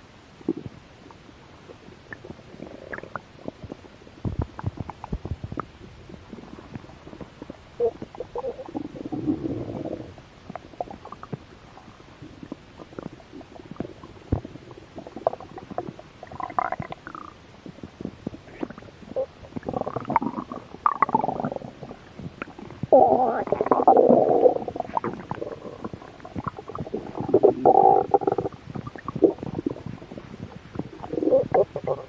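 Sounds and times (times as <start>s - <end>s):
stomach gurgles and pops: 0.4s - 32.0s
stomach rumbling: 0.4s - 32.0s.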